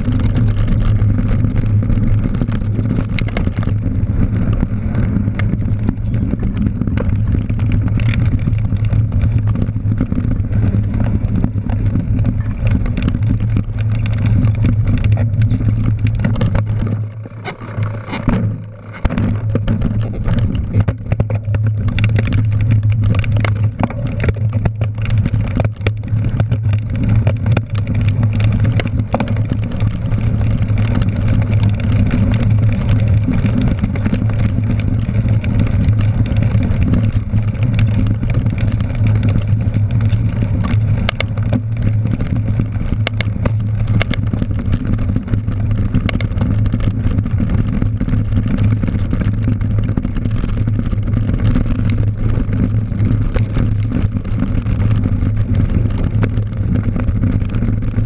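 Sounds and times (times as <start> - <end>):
bike clicks and rattles: 0.0 - 58.0
tyres rolling over grass and dirt: 0.0 - 58.0
wind rumble: 0.0 - 58.0.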